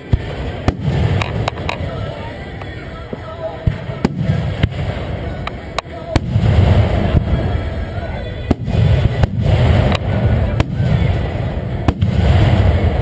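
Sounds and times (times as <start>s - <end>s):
fireworks cracks and pops: 0.0s - 7.5s, 8.4s - 13.0s
fireworks booming: 0.0s - 13.0s.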